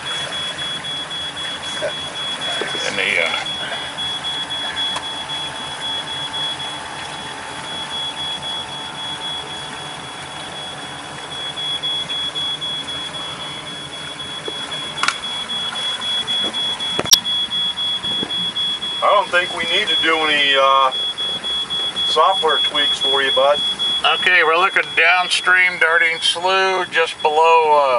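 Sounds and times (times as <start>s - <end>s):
boat engine running: 0.0s - 27.9s
high-pitched electronic whine: 0.0s - 27.9s.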